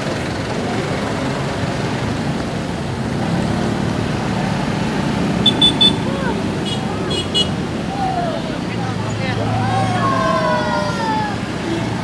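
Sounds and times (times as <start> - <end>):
traffic engines idling and creeping: 0.0 - 12.0.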